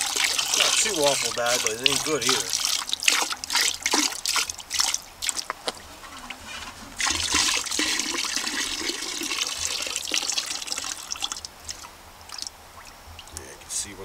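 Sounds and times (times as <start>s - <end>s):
fuel pouring into plastic bucket: 0.0s - 12.5s.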